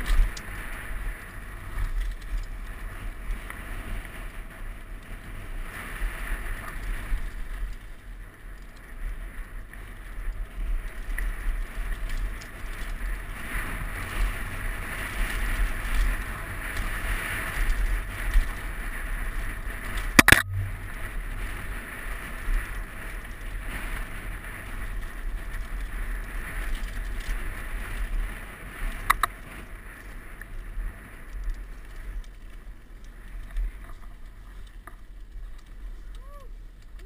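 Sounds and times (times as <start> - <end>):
bike tyre rumble and rattle: 0.0 - 37.0
wind noise: 0.0 - 37.0.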